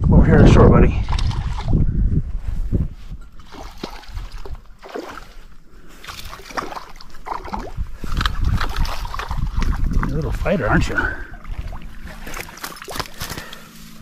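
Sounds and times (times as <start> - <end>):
creek water splashing and trickling: 0.8 - 1.8, 3.3 - 14.0.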